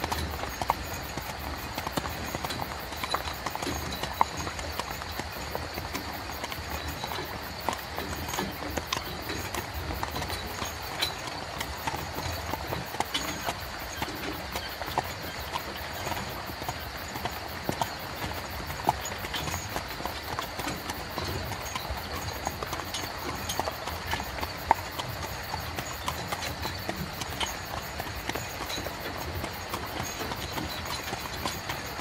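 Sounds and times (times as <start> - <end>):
horse hooves clip-clopping: 0.0 - 32.0.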